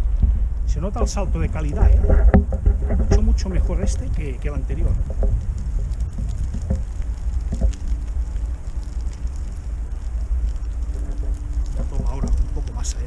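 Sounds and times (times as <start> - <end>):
faint steady hum: 0.0 - 13.0
wind rumble on microphone: 0.0 - 13.0
tyre crunching over grit: 0.7 - 13.0.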